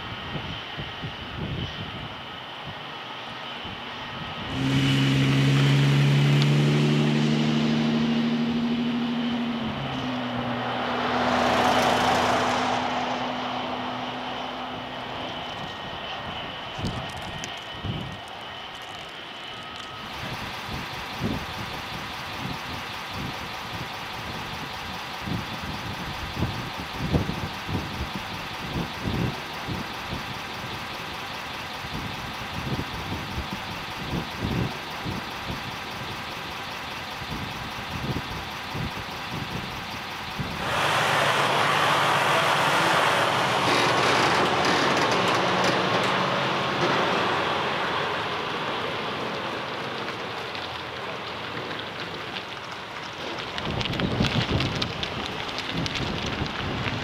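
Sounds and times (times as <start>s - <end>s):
diesel truck engine idling: 4.4s - 53.0s.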